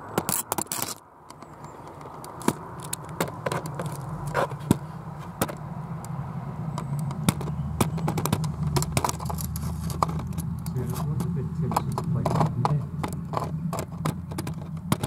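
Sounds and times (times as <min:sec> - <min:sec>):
camera scraping against stone wall: 0:00.1 - 0:05.7, 0:06.7 - 0:15.0.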